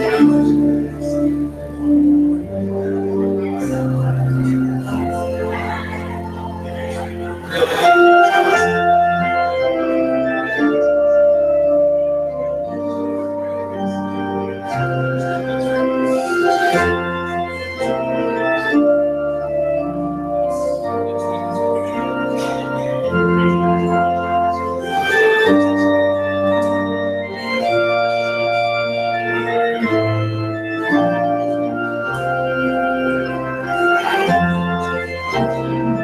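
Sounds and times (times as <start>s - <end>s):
church organ chords: 0.0s - 36.0s.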